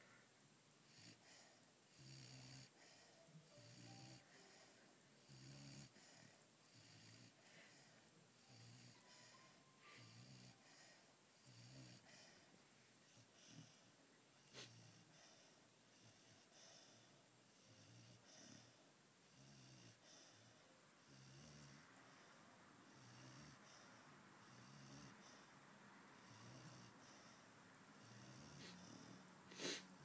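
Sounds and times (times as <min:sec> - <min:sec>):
puppy snoring: 0:00.8 - 0:25.6, 0:26.2 - 0:30.0.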